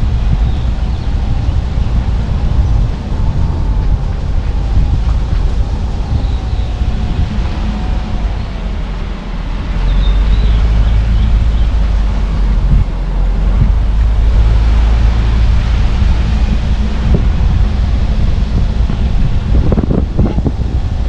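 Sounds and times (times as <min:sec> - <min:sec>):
car engine and tyre rumble: 0:00.0 - 0:21.0
wind noise: 0:00.0 - 0:21.0.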